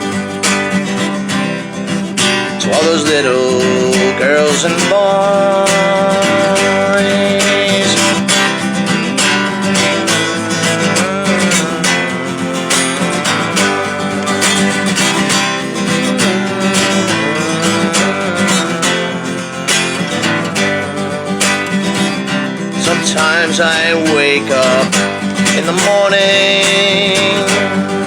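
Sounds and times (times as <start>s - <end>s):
sliding melody line: 0.0s - 28.0s
strummed acoustic guitar: 0.0s - 28.0s.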